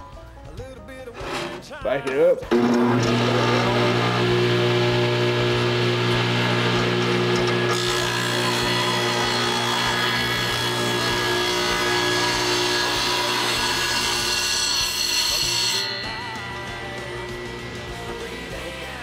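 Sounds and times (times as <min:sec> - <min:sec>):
table saw cutting wood: 0:01.1 - 0:19.0
saw motor humming: 0:02.5 - 0:19.0.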